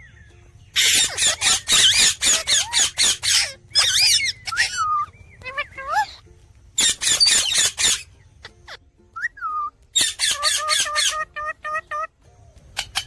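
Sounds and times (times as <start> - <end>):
parrot whistling: 0.0 - 6.2, 6.8 - 12.1
parrot chattering screechily: 0.8 - 6.2, 6.8 - 12.1.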